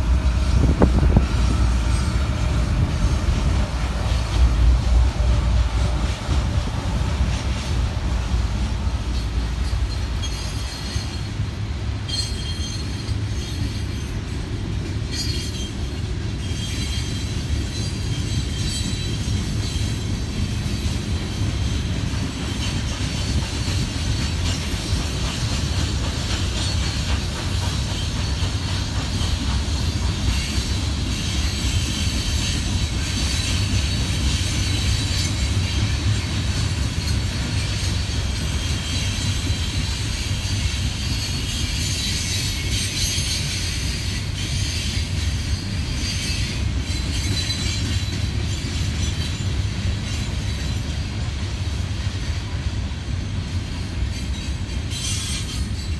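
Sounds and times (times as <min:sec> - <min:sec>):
wheels clacking over rail joints: 0:00.0 - 0:52.6
freight train rumbling past: 0:00.0 - 0:55.9.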